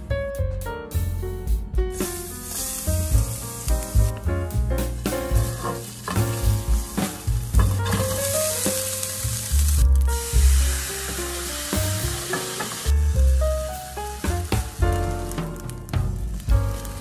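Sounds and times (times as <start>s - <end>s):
background music with bass: 0.0s - 17.0s
food sizzling in oil: 1.9s - 17.0s.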